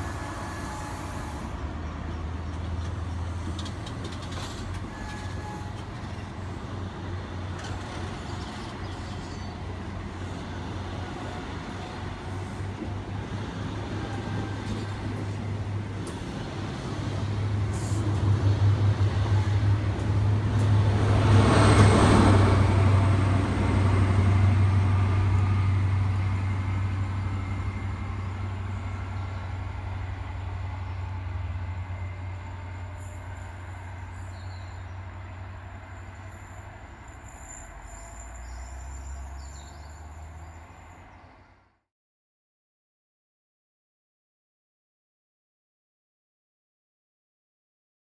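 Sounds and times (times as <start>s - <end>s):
diesel train passing: 0.0s - 41.8s.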